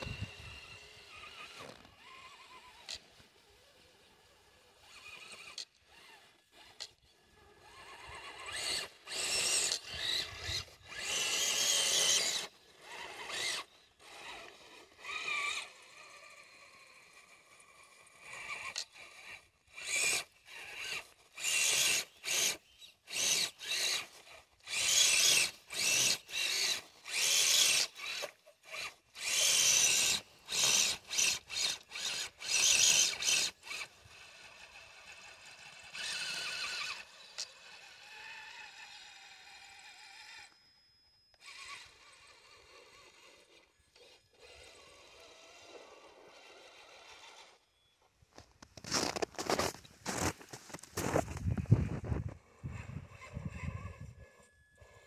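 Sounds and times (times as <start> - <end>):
electric motor whining: 0.0 - 47.9, 48.8 - 55.0.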